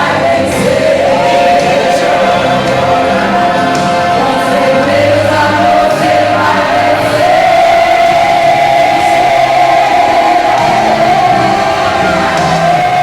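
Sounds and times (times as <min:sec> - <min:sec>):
women's choir singing a hymn: 0:00.0 - 0:13.0.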